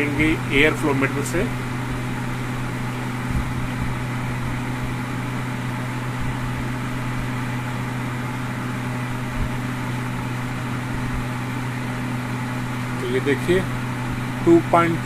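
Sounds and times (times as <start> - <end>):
fan motor hum: 0.0 - 15.0
rush of air from fan: 0.0 - 15.0.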